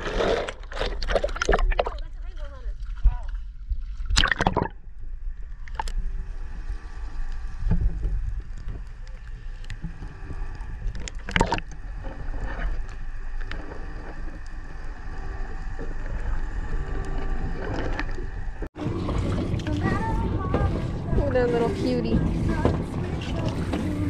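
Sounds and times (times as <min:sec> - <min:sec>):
muffled underwater rumble: 0:00.0 - 0:24.0.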